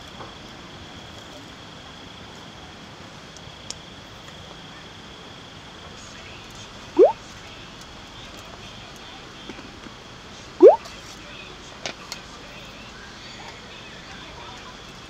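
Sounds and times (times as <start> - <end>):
crickets droning: 0.0 - 15.0.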